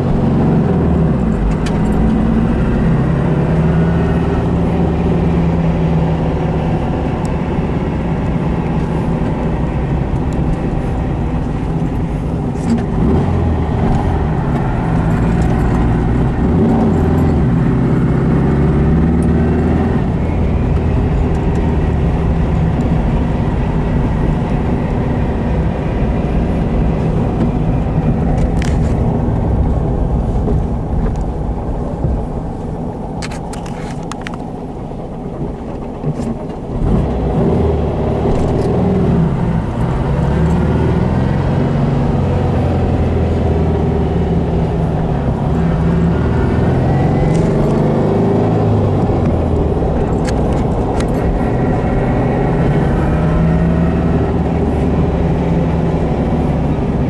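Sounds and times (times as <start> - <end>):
car engine running: 0.0 - 57.0
road noise: 0.0 - 57.0.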